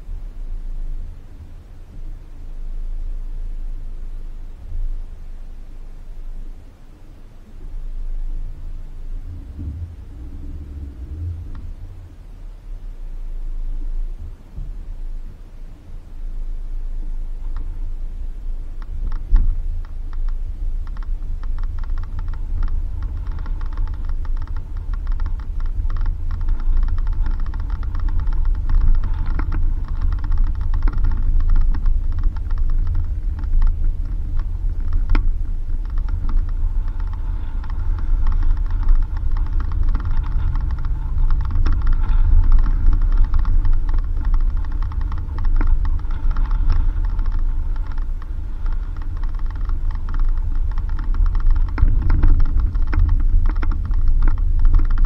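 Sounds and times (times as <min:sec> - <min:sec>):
engine and tyre rumble: 0:00.0 - 0:55.0
rapid clicking and rattling: 0:06.9 - 0:12.3, 0:13.7 - 0:55.0.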